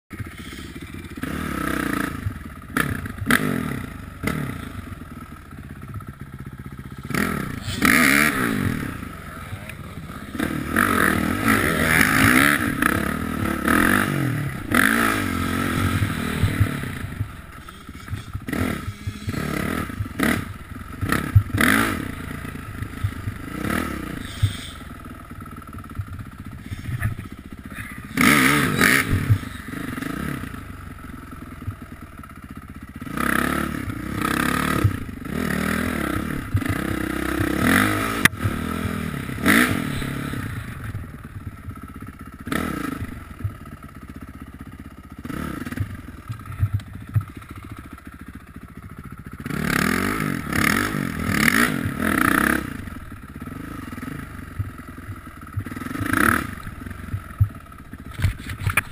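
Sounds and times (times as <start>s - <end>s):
dirt bike engine revving: 0.1s - 58.9s.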